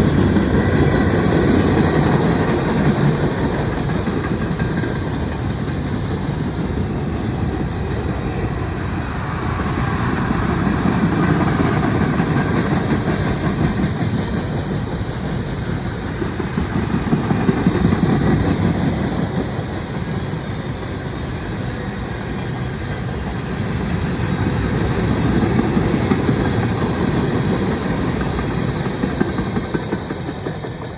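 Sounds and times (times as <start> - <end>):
wheels clacking over rail joints: 0.0 - 9.0, 9.7 - 30.9
freight train rumble: 0.0 - 30.9.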